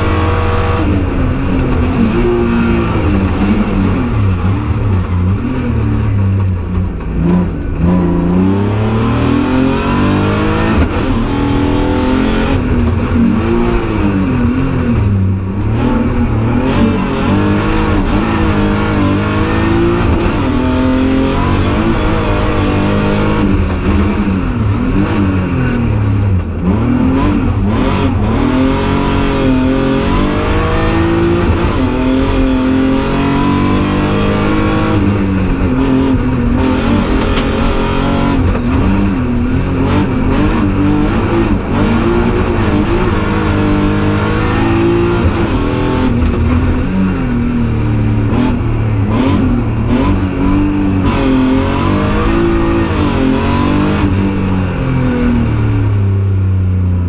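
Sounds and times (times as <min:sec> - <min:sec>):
car engine revving hard: 0:00.0 - 0:06.4, 0:07.1 - 0:47.3, 0:48.1 - 0:55.9.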